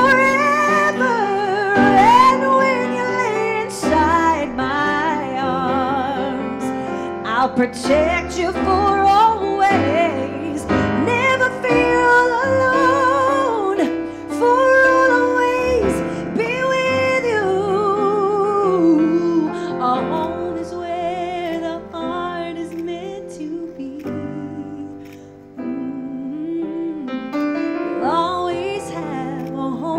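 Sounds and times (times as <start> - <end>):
piano accompaniment: 0.0 - 29.9
woman singing a slow ballad: 0.0 - 29.9.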